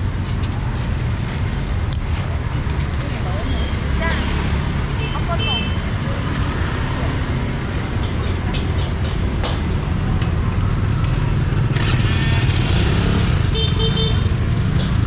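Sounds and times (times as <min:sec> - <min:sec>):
motorbike engines rumbling: 0:00.0 - 0:15.0
street traffic: 0:00.0 - 0:15.0.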